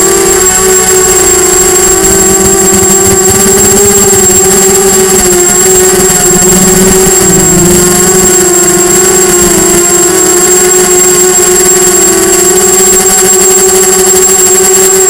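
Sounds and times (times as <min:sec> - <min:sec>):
thin high tone: 0:00.0 - 0:13.7
quadcopter motors whining: 0:00.0 - 0:15.0.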